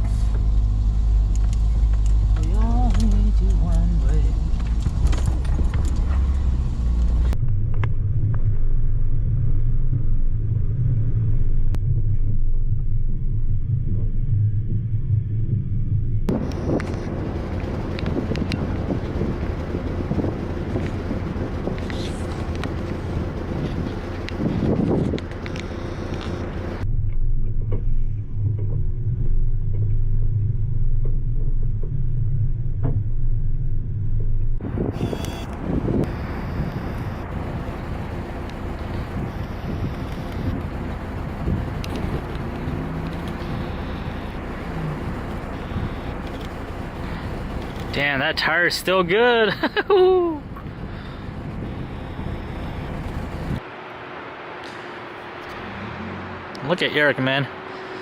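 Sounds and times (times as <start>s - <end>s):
truck engine rumbling: 0.0s - 58.0s
wind noise on microphone: 4.4s - 48.0s, 50.4s - 53.6s.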